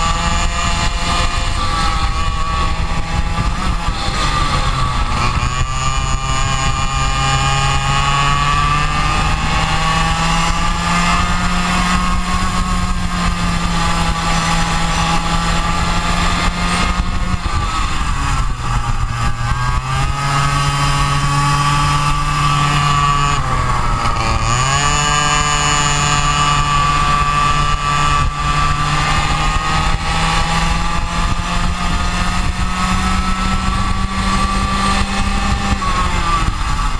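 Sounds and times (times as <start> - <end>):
go-kart engine revving: 0.0 - 36.9.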